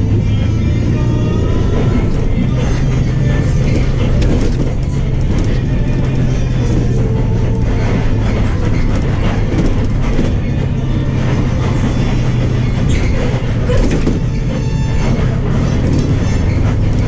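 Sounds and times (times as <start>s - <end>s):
bus engine drone: 0.0s - 17.0s
light rattling of bus body: 0.0s - 17.0s
road noise: 0.0s - 17.0s.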